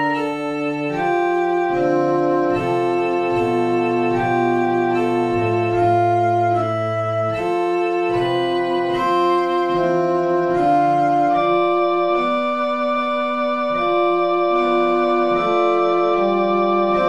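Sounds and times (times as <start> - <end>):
slow organ music: 0.0 - 17.0.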